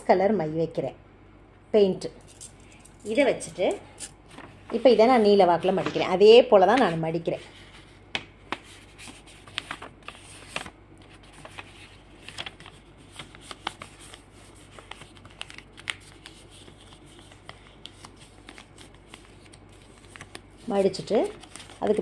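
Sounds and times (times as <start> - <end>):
paper crackling and rustling: 4.3 - 22.0.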